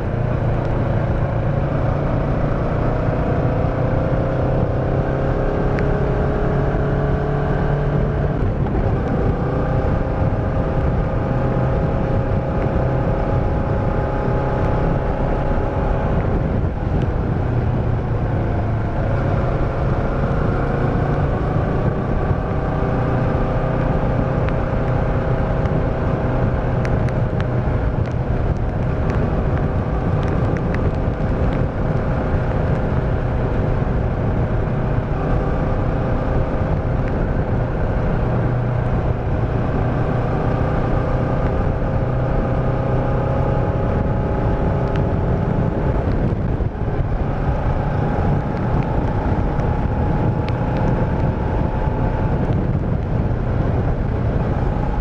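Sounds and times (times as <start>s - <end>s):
motorcycle engine running: 0.0s - 55.0s
road and wind rumble: 0.0s - 55.0s.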